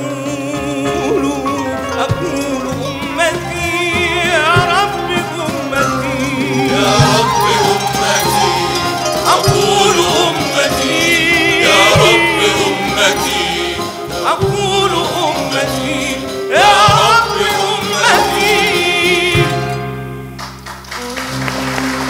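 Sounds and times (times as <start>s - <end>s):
man singing with vibrato: 0.0s - 19.9s
choir singing: 0.0s - 20.0s
instrumental accompaniment: 0.0s - 22.0s.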